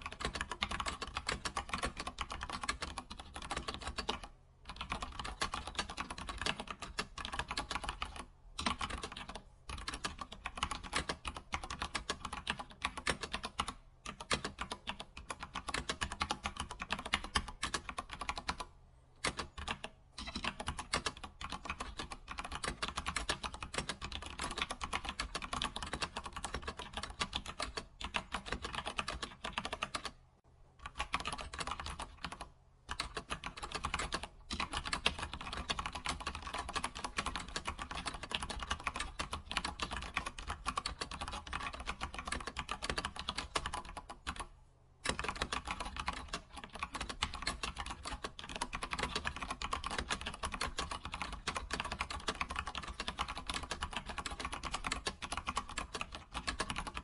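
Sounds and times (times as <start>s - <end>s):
fast computer keyboard typing: 0.0s - 30.2s, 30.8s - 57.0s.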